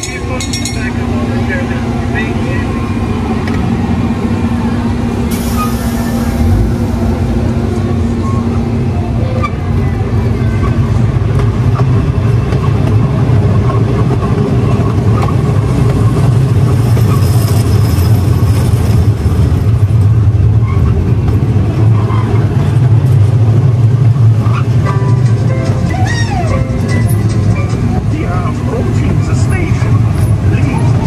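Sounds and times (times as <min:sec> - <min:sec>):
ride train rumbling on track: 0:00.0 - 0:31.0.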